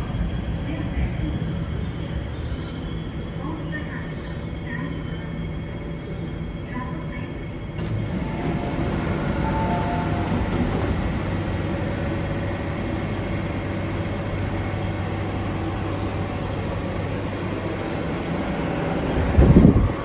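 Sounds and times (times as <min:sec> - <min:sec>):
steady train hum: 0:00.0 - 0:20.0
train slowing to a halt: 0:00.0 - 0:20.0.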